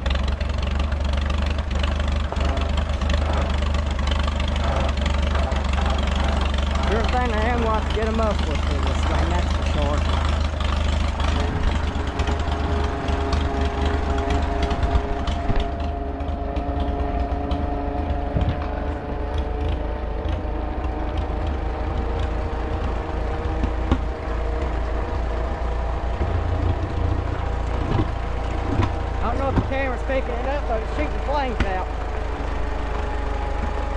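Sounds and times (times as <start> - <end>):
unmuffled tractor engine running: 0.0 - 33.9.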